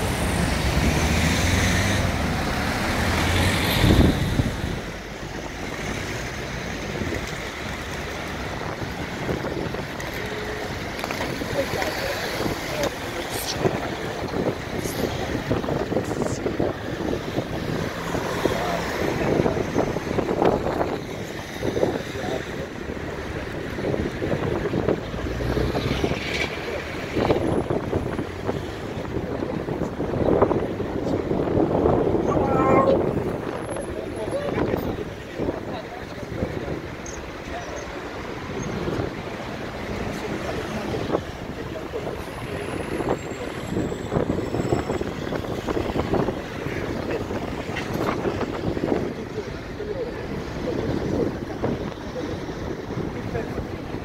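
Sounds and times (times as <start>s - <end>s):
wind buffeting microphone: 0.0s - 5.8s, 6.4s - 37.3s, 37.9s - 54.0s
hum of passing cars: 0.0s - 54.0s
nearby traffic: 0.0s - 54.0s.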